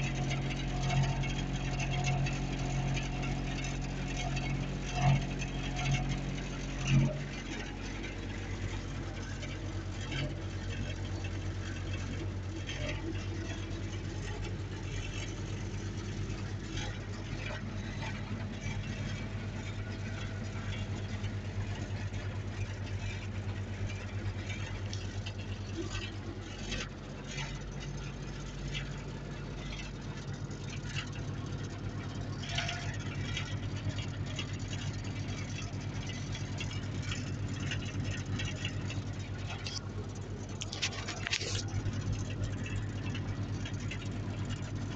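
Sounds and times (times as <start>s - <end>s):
diesel engine idling: 0.0s - 44.9s
light clicks and rattles: 0.0s - 44.9s.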